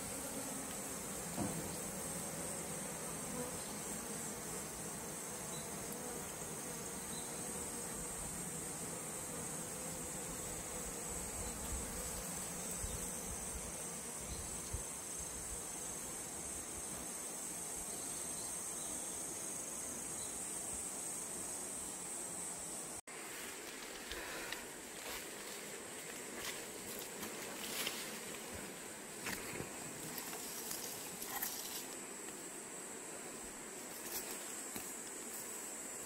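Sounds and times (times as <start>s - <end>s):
honeybees humming: 0.0s - 36.0s
insects chirring: 0.0s - 36.0s.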